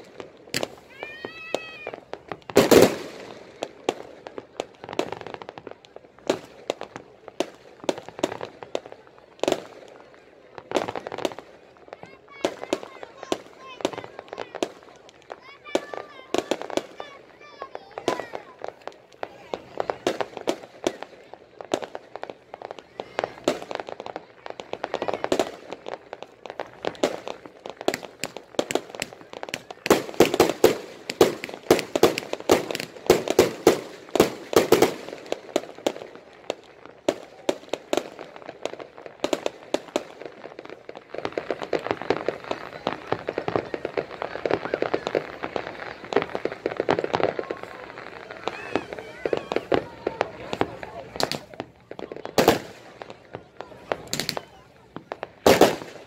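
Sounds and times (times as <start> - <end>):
firecrackers popping and banging: 0.0 - 56.0.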